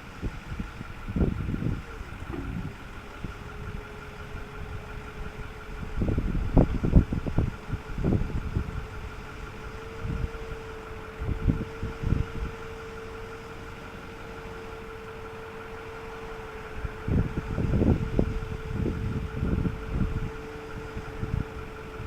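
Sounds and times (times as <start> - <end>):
low rumbles: 0.0 - 22.0
truck engine idling with whine: 0.0 - 22.0.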